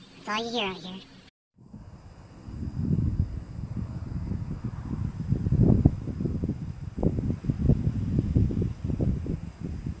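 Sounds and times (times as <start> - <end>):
wind buffeting microphone: 1.6 - 10.0.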